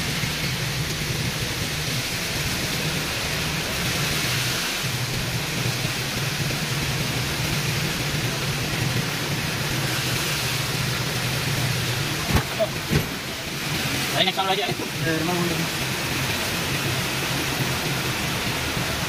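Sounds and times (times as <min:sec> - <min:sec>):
low engine hum: 0:00.0 - 0:19.0
water washing around tyres: 0:00.0 - 0:19.0.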